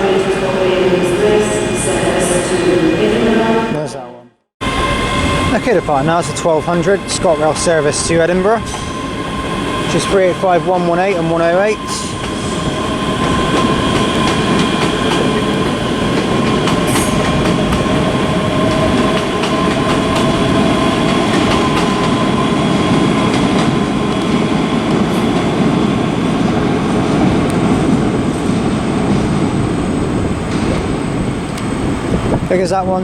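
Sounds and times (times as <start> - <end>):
train wheels rumbling on track: 4.6 - 33.0.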